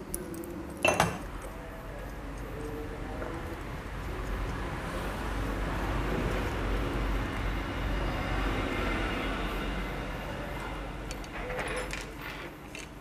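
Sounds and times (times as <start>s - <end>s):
passing motor vehicle rumble: 1.3s - 12.7s.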